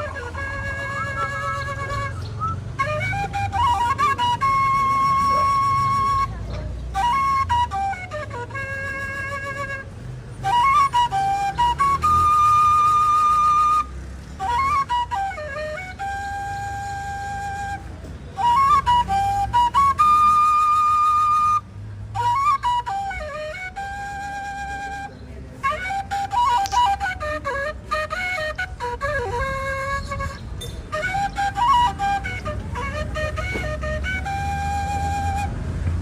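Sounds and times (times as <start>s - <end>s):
solo flute melody: 0.0s - 36.0s.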